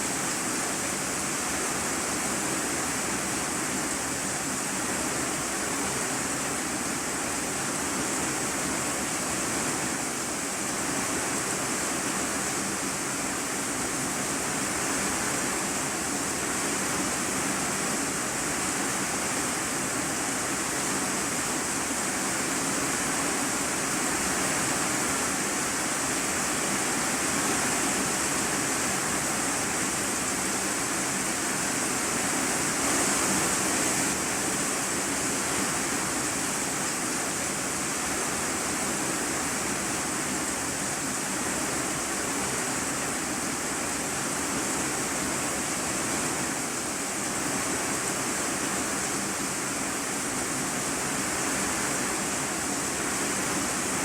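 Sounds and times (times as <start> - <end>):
heavy rain on metal roof: 0.0 - 54.0.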